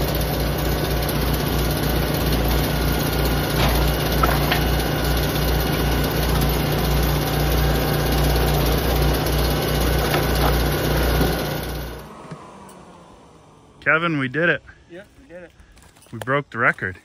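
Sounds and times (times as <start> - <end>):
log splitter engine running: 0.0 - 14.4.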